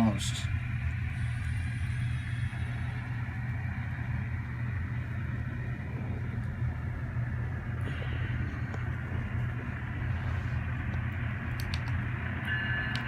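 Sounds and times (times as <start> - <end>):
diesel engine rumble from small speaker: 0.0 - 13.0.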